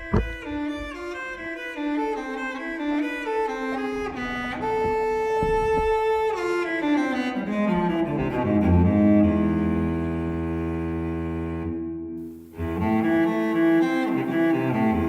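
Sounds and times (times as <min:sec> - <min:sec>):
solo cello melody: 0:00.0 - 0:15.0.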